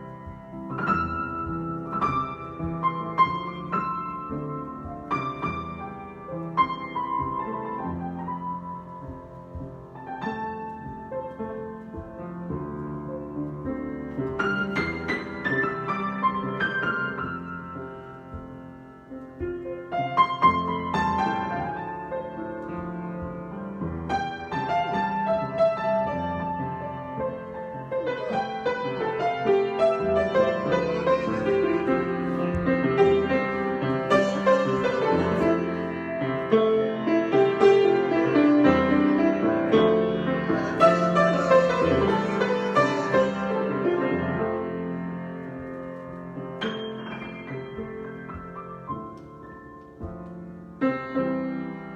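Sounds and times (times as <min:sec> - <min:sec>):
solo piano: 0:00.0 - 0:51.9.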